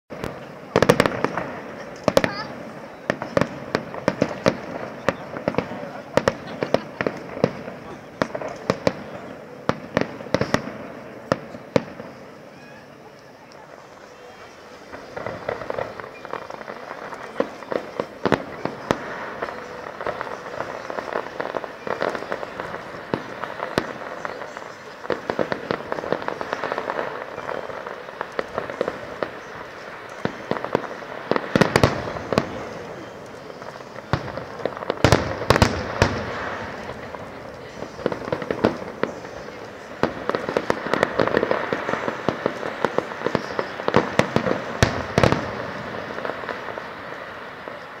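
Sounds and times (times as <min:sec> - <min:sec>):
fireworks bangs and crackling: 0:00.1 - 0:48.0.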